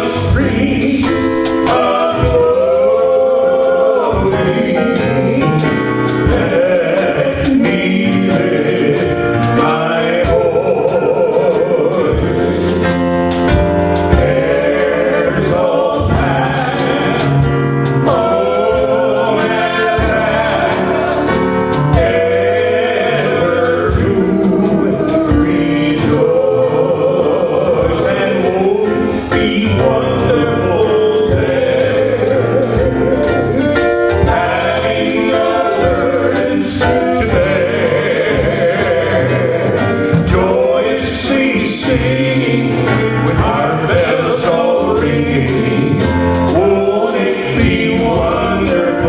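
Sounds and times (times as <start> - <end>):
instrumental accompaniment with beat: 0.0 - 49.0
voices singing with vibrato: 0.0 - 49.0.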